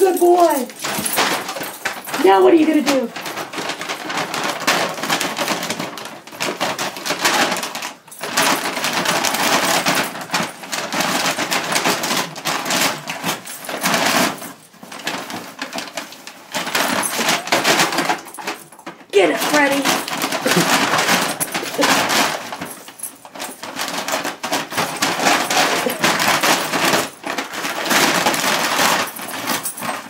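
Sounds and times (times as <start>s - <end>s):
paper bag crinkling and tearing: 0.0s - 30.0s.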